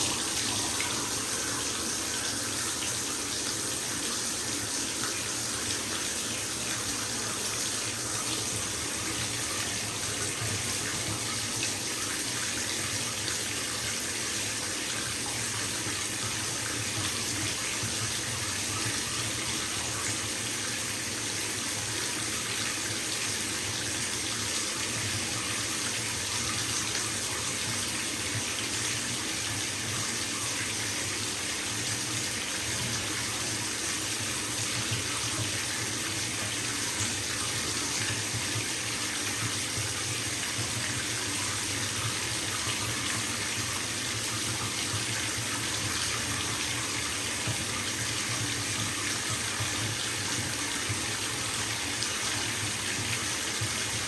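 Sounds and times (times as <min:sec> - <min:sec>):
tap water filling bathtub: 0:00.0 - 0:54.0.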